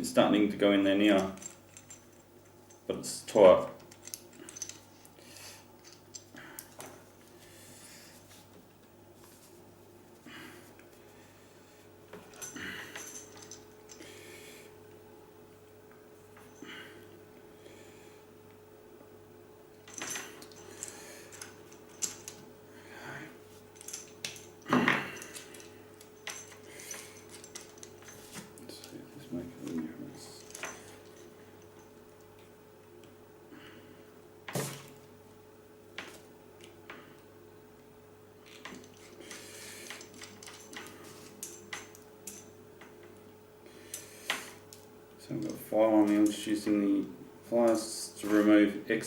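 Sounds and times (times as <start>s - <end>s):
faint steady hum: 0.0s - 49.0s.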